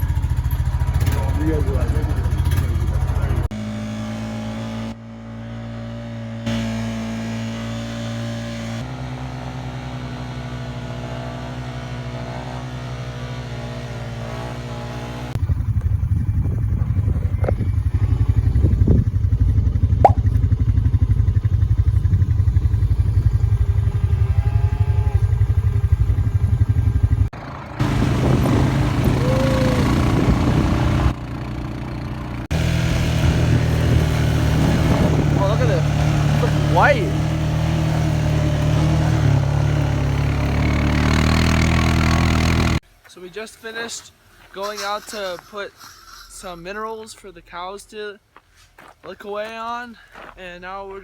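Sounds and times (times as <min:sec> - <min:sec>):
atv engine running: 0:00.0 - 0:42.8.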